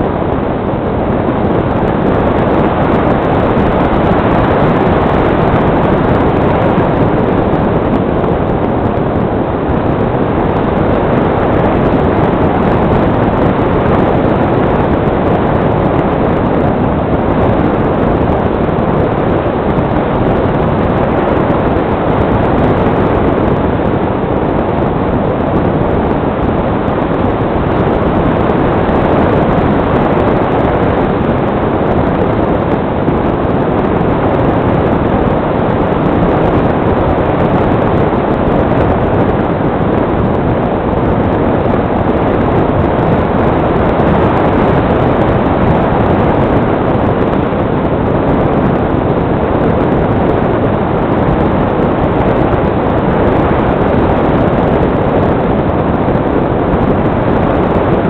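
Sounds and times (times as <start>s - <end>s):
airflow rushing over microphone: 0.0s - 58.0s.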